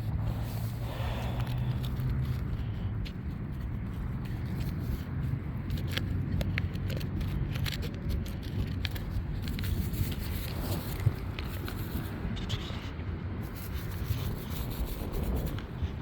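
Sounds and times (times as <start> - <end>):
hand digging in soil: 0.0 - 16.0
wind buffeting microphone: 0.0 - 16.0.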